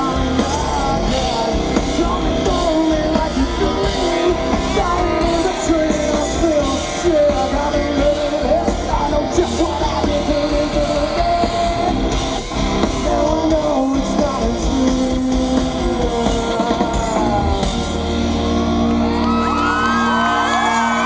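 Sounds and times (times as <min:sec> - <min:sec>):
person singing: 0:00.0 - 0:18.2
electric guitar: 0:00.0 - 0:21.0
live rock band playing: 0:00.0 - 0:21.0.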